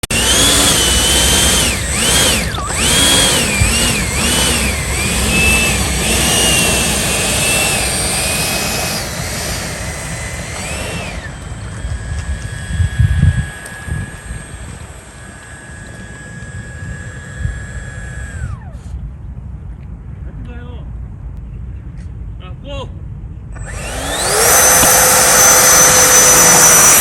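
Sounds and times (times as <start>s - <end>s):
rushing airflow: 0.0s - 19.1s, 23.6s - 27.0s
electric ducted fans whining: 0.0s - 20.6s, 23.4s - 27.0s.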